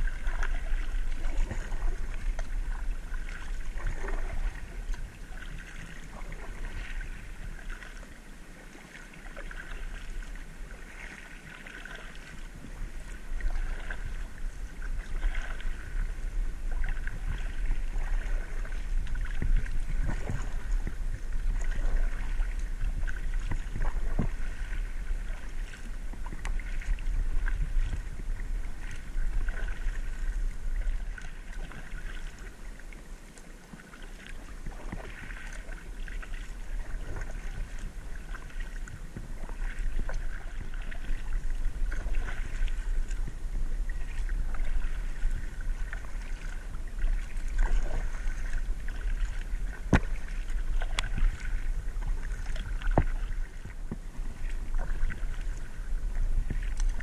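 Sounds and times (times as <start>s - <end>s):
paddle strokes dripping on water: 0.0s - 57.0s
wind rumble on microphone: 0.0s - 57.0s.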